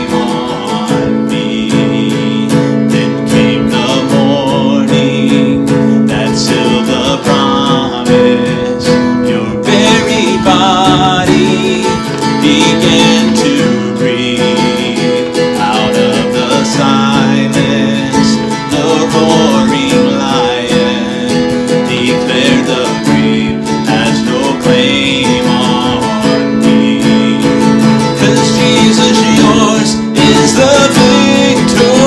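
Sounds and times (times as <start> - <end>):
acoustic guitar: 0.0 - 32.0
man singing: 0.0 - 32.0.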